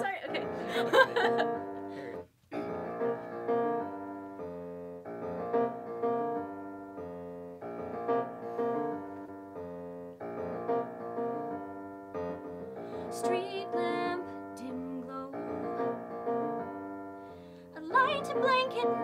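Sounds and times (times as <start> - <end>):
piano playing repeated chords: 0.0 - 19.0.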